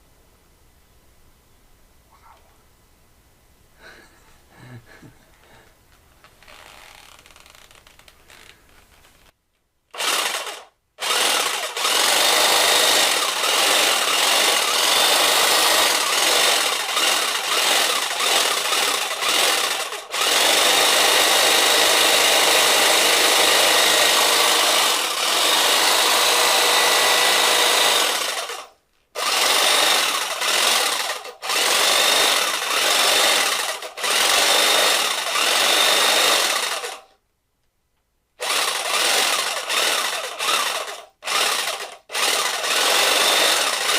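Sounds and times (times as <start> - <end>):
power tool whining: 6.4 - 9.3, 9.9 - 37.1, 38.4 - 43.9.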